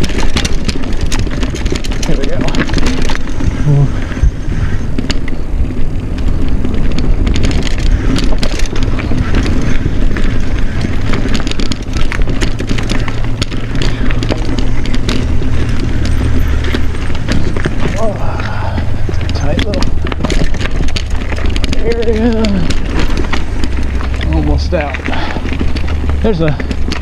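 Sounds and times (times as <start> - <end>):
wind on microphone: 0.0 - 24.2
bike rattling over rocks: 0.0 - 27.0.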